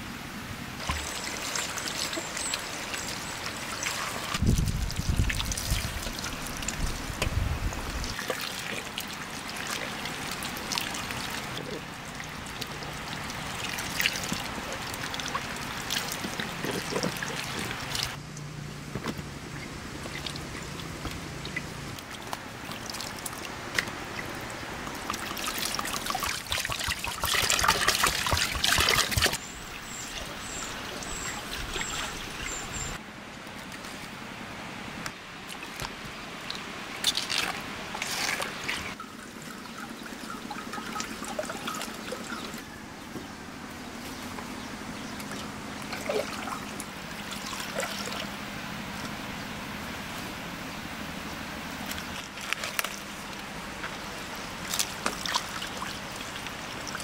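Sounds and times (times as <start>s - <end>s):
water splashing over vegetables: 0.8s - 18.2s, 19.5s - 33.0s, 35.4s - 42.6s, 45.1s - 48.4s, 51.6s - 57.0s.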